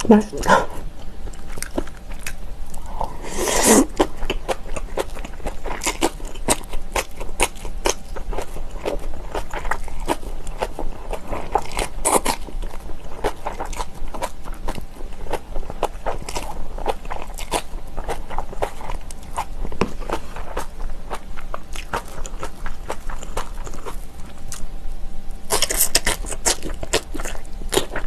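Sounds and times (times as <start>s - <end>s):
wet chewing and crunching: 0.8s - 3.2s, 3.8s - 24.7s, 25.5s - 28.0s.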